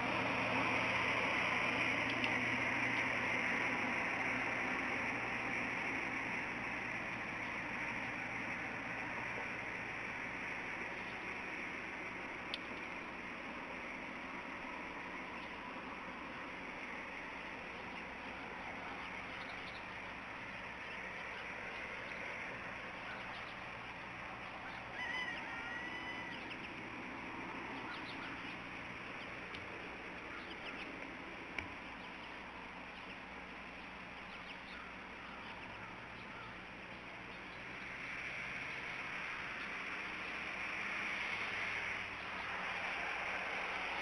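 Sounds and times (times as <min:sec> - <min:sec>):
drawn-out bird call: 0:00.0 - 0:44.0
steady background hiss: 0:00.0 - 0:44.0.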